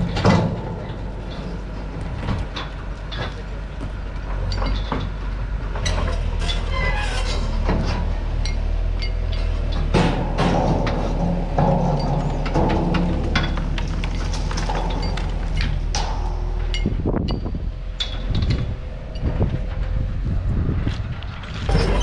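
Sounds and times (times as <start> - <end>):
excavator diesel engine running: 0.0 - 22.0
steel frame clanking and creaking: 0.0 - 22.0.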